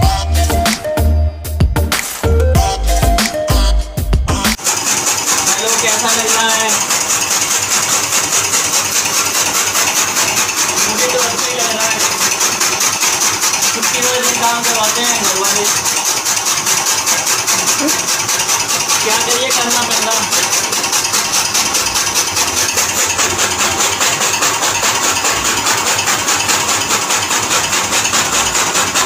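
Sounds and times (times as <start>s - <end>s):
chaff cutter chopping fodder: 4.4s - 29.0s.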